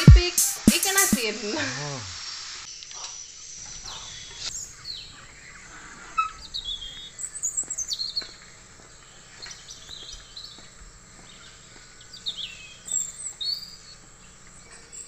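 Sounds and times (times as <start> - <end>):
small birds chirping: 2.8 - 15.0.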